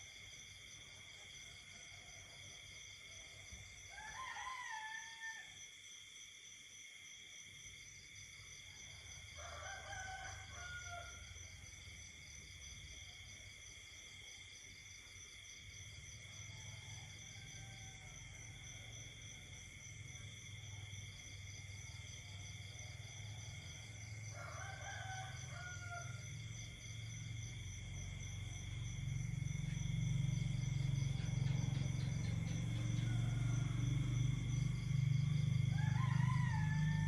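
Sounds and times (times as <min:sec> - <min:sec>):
insects and frogs trilling: 0:00.0 - 0:37.0.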